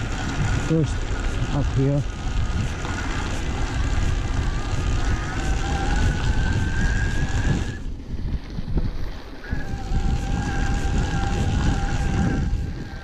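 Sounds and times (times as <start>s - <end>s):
electric motor whining: 0.0s - 8.2s, 8.8s - 13.0s
wind and riding rumble: 0.0s - 13.0s.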